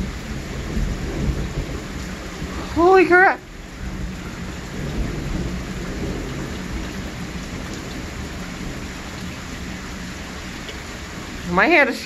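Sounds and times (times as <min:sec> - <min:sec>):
low rumble of thunder: 0:00.0 - 0:11.8
heavy rain on pavement: 0:00.0 - 0:12.0.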